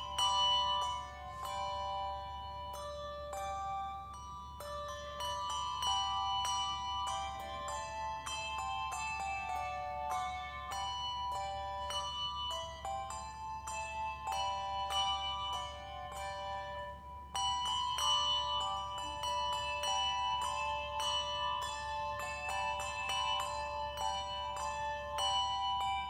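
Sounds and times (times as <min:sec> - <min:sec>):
handbells ringing in chords: 0:00.0 - 0:26.0.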